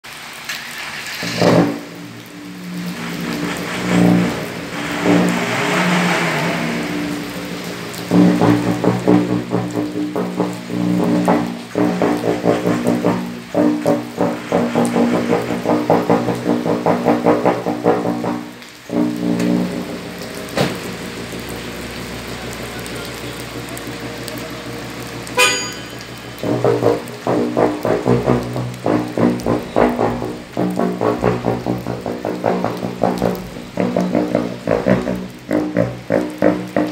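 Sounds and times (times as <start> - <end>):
deep van exhaust note: 1.4 - 36.9.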